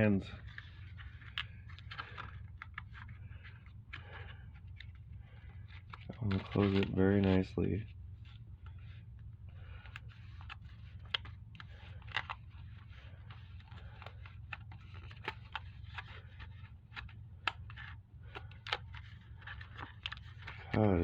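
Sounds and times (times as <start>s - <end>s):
steady low hum: 0.0s - 21.0s
container crinkling and tapping: 0.4s - 7.4s, 8.2s - 20.9s.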